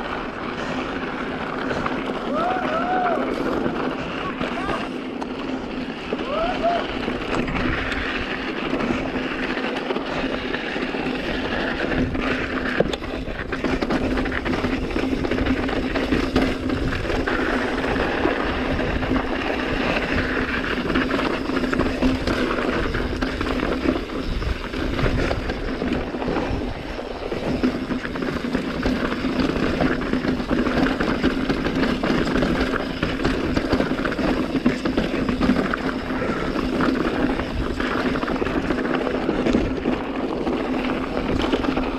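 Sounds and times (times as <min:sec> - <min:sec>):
bike rattling over stones: 0:00.0 - 0:41.9
tyres crunching on gravel: 0:00.0 - 0:41.9.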